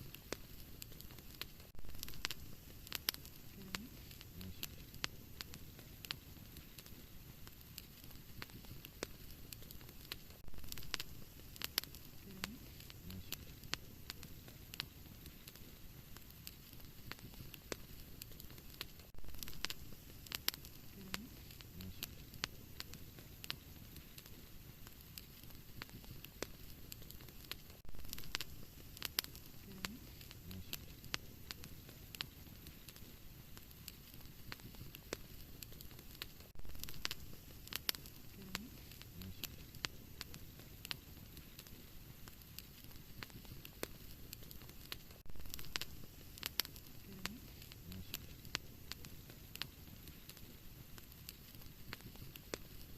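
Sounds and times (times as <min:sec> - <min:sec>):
low rumble of flames: 0:00.0 - 0:52.9
wood fire pops and snaps: 0:00.0 - 0:52.9.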